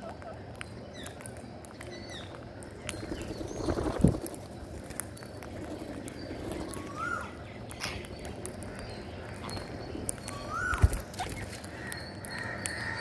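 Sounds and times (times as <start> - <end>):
birds pecking grains: 0.0 - 13.0.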